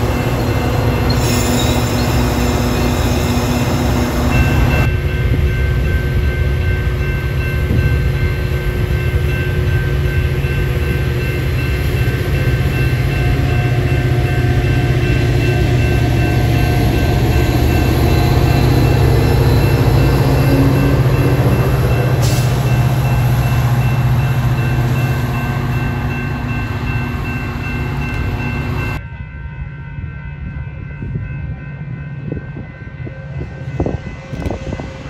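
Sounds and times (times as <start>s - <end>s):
crossing bells ringing: 0.0s - 35.0s
diesel locomotive passing: 0.0s - 35.0s
train rolling on rails: 0.0s - 35.0s.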